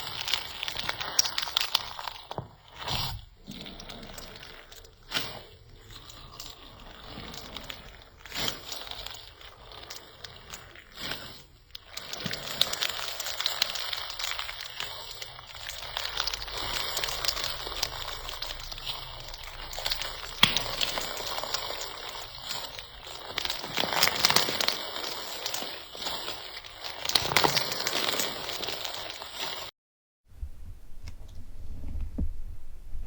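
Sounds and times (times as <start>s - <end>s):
slime squeezed by hand: 0.0s - 29.7s.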